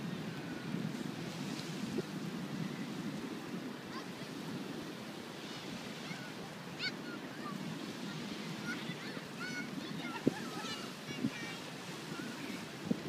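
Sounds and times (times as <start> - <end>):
surf on beach: 0.0 - 13.0
wind buffeting microphone: 0.0 - 13.0.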